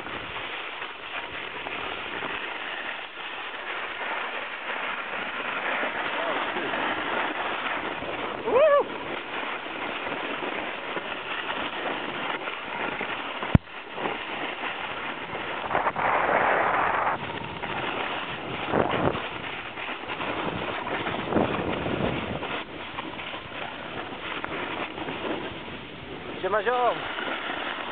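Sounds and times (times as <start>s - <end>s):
wind on microphone: 0.0s - 27.9s.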